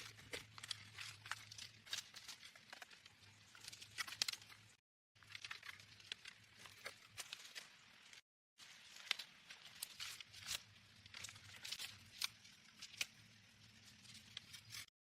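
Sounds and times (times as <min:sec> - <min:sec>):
crinkling handling noises: 0:00.0 - 0:14.9.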